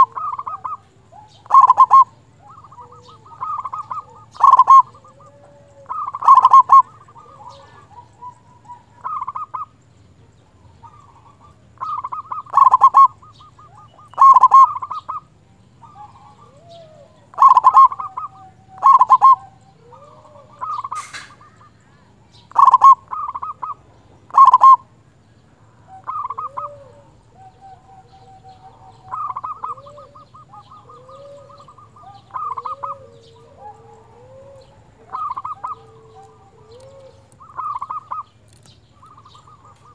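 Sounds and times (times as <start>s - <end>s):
dove cooing song: 0.0s - 39.9s
faint low gliding calls: 0.0s - 39.9s.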